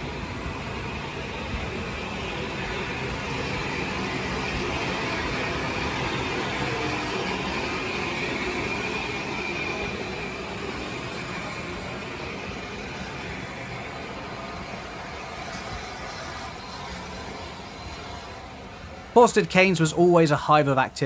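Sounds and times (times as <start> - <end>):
steam hiss: 0.0 - 19.9
steam train rumbling: 0.0 - 21.0.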